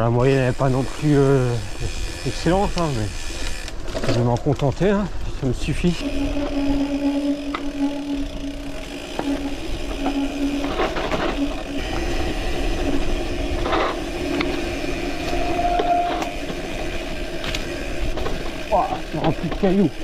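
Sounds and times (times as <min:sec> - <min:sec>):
bicycle buzzing hum: 0:00.0 - 0:20.0.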